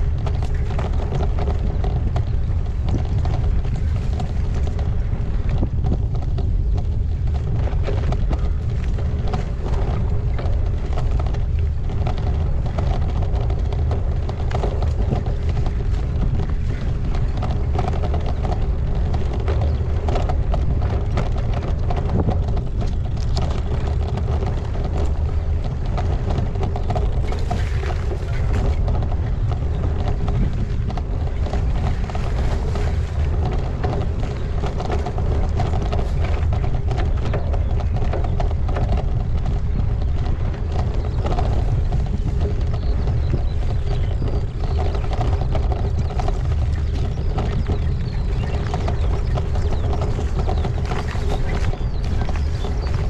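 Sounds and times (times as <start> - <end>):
bike rattling and clicking: 0.0 - 53.0
wind and tyre rumble: 0.0 - 53.0.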